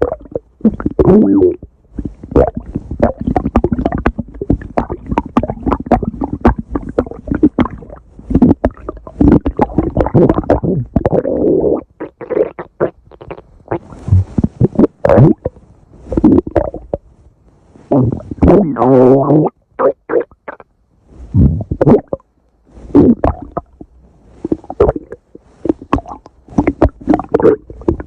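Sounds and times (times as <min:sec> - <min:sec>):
stomach growling: 0:00.0 - 0:17.1, 0:17.8 - 0:20.7, 0:21.3 - 0:28.0.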